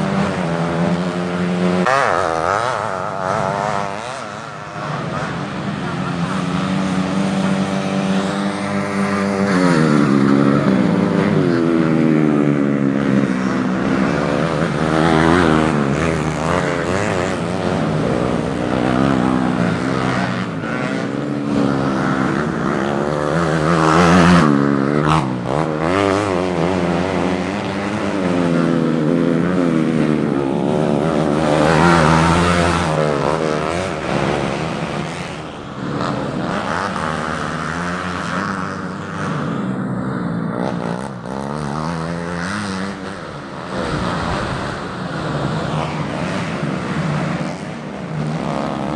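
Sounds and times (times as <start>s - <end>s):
racing motorcycles at full throttle: 0.0s - 48.9s.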